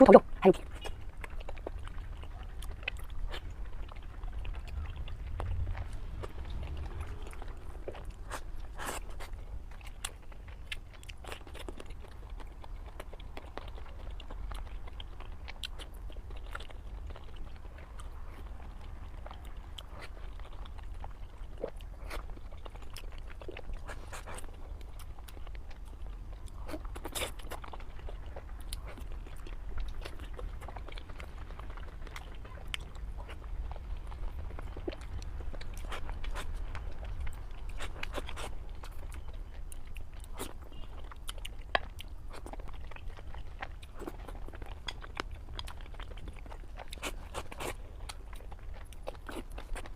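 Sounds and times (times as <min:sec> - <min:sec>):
chewing and crunching: 0:00.0 - 0:49.9
low steady hum: 0:00.0 - 0:49.9.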